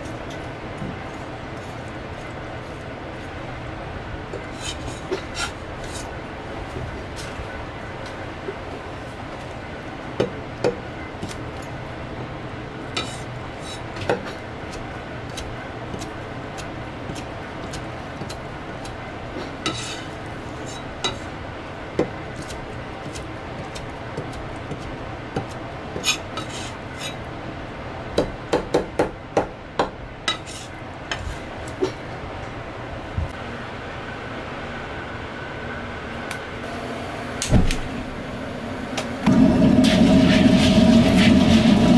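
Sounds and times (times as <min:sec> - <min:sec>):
steady hum: 0:00.0 - 0:41.9.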